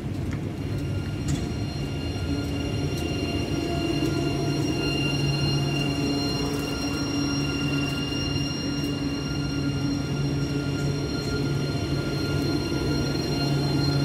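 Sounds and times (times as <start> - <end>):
tram electric hum and whine: 0.0 - 14.0.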